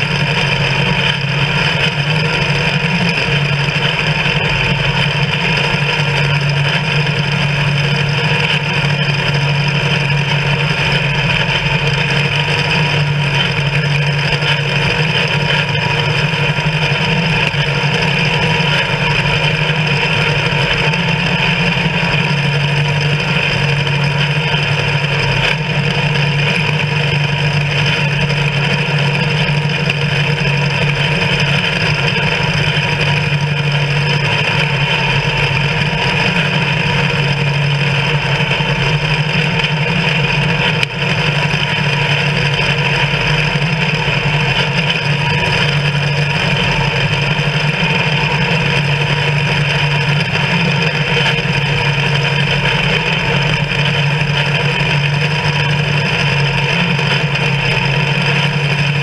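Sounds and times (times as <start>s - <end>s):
corn picker working: 0.0s - 59.0s
tractor engine running under load: 0.0s - 59.0s.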